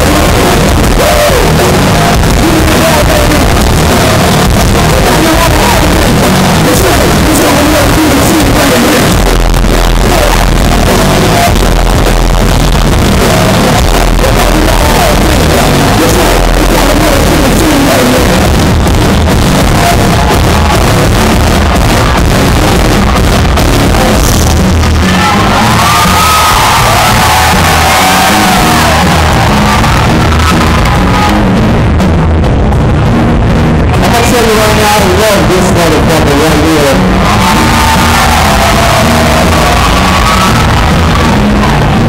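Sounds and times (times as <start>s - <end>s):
deep bass: 0.0s - 42.0s
loud live concert music: 0.0s - 42.0s.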